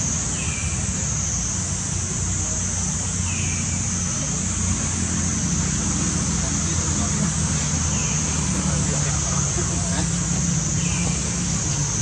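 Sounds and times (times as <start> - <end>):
continuous high hiss: 0.0 - 12.0.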